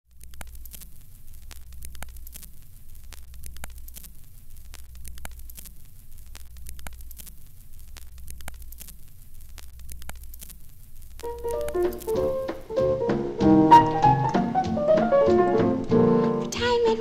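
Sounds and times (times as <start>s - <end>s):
record crackle and clicks: 0.0s - 17.0s.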